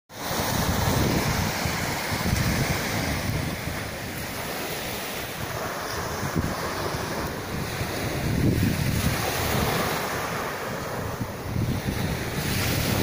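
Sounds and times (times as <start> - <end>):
sea waves breaking on beach: 0.1 - 13.0
wind buffeting microphone: 0.2 - 13.0.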